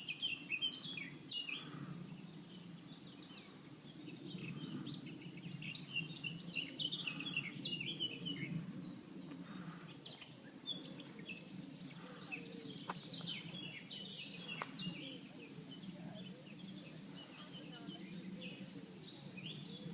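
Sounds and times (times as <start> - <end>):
songbirds chirping and trilling: 0.0 - 19.9.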